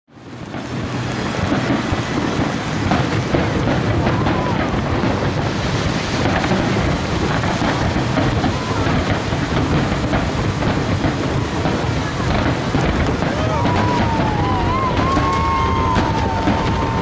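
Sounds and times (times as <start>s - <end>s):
aerial firework shells bursting: 0.1s - 17.0s
firework crackling: 0.1s - 17.0s.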